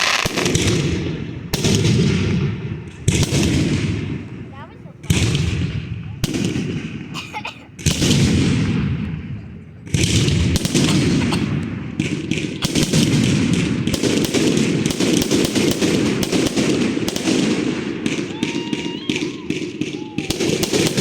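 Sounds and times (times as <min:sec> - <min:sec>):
fireworks cracks and bangs: 0:00.0 - 0:21.0.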